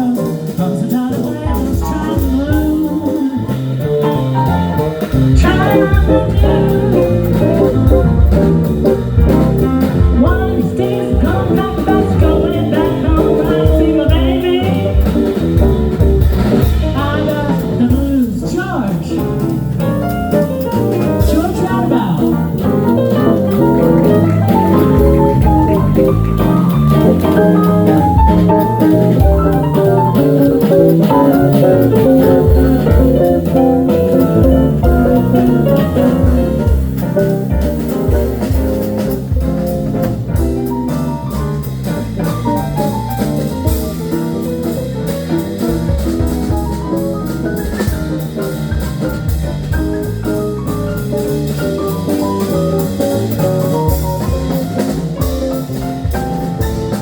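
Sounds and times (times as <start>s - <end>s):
band playing instrumental blues: 0.0s - 57.0s.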